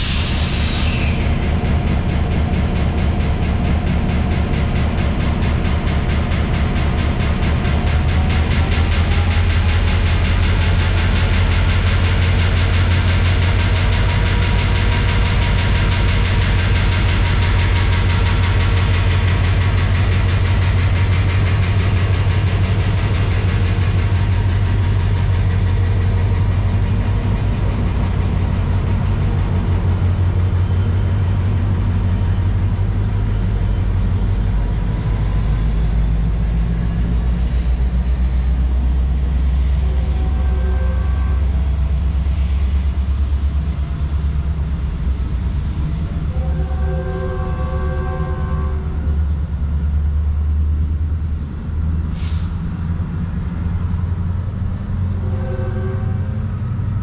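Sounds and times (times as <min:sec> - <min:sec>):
diesel locomotive deep rumble: 0:00.0 - 0:57.0.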